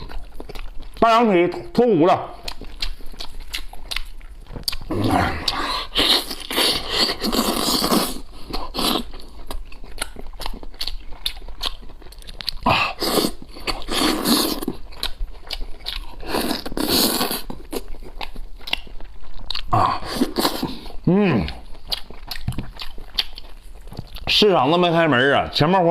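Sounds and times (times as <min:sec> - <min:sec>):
person chewing meat: 0:00.0 - 0:24.5.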